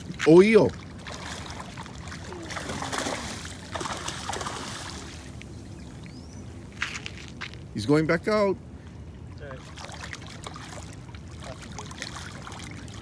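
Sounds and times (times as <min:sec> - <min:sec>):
water splashing and sloshing: 0:00.0 - 0:07.7, 0:08.6 - 0:13.0.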